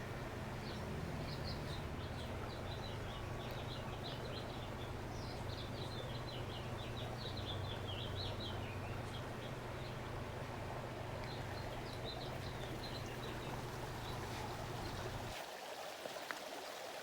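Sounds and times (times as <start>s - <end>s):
songbirds chirping: 0.0s - 15.3s.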